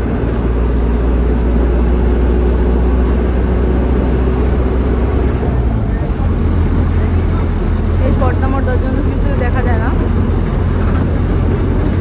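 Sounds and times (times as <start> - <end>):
bus engine rumbling: 0.0 - 12.0
road noise: 0.0 - 12.0.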